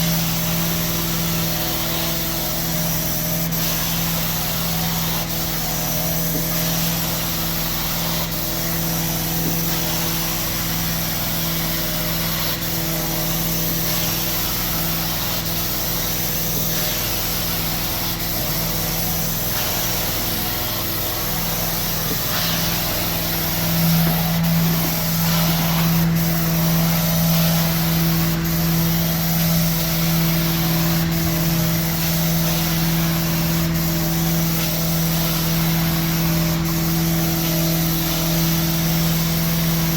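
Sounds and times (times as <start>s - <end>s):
vacuum motor running: 3.0s - 39.9s.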